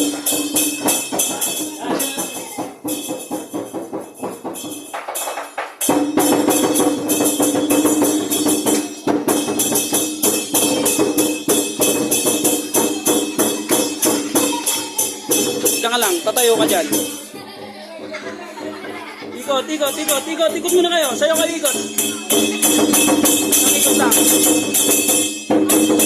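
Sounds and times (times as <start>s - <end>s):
drum and clashing cymbals: 0.0s - 17.3s, 19.7s - 26.0s.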